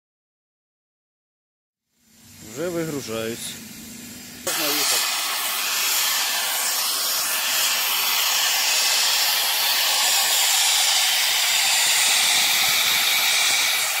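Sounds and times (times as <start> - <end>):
loud hiss of air: 1.9 - 14.0.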